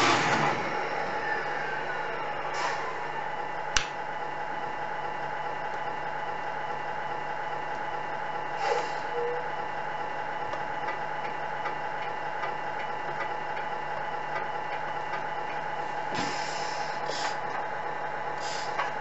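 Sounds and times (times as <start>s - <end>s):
truck diesel engine idling: 0.0s - 19.0s.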